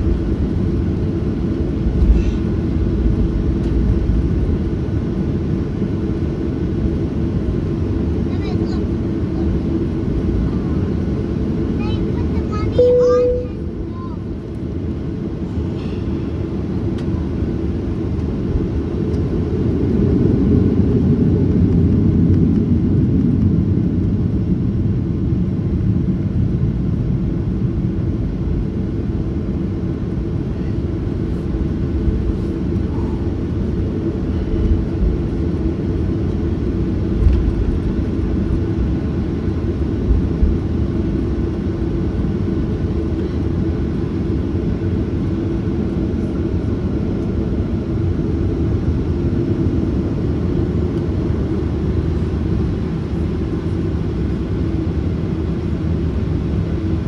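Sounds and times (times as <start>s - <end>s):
jet engine and airframe rumble: 0.0s - 57.0s.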